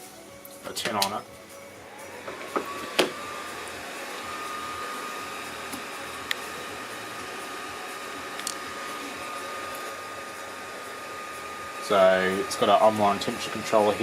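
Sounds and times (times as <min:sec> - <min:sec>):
fan rushing air: 0:00.0 - 0:14.0
steady whine: 0:00.0 - 0:14.0.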